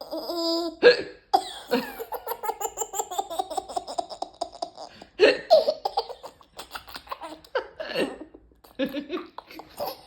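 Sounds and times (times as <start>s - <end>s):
baby giggling: 0.0s - 0.8s, 1.4s - 10.0s.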